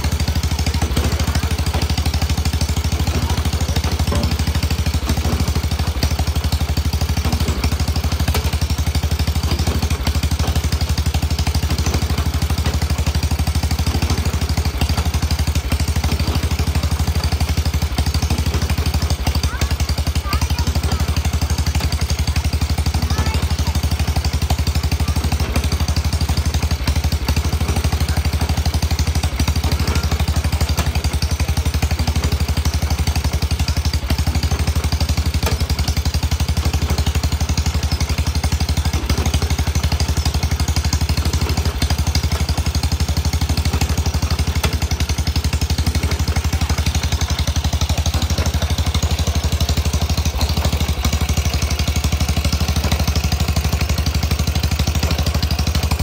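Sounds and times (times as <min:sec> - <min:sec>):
hay baler engine running: 0:00.0 - 0:56.0.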